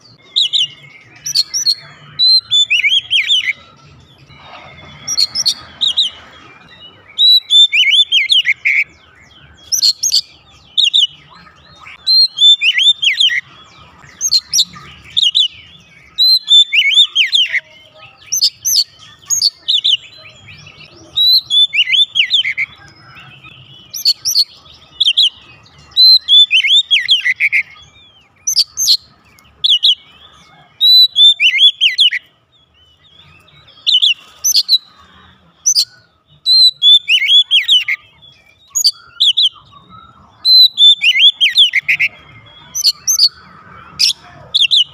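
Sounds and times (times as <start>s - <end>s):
bird singing whistled notes: 0.0s - 44.9s.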